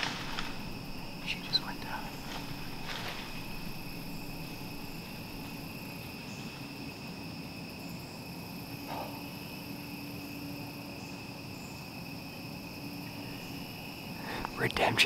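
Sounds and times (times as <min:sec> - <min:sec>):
crickets and insects chirring: 0:00.0 - 0:15.0.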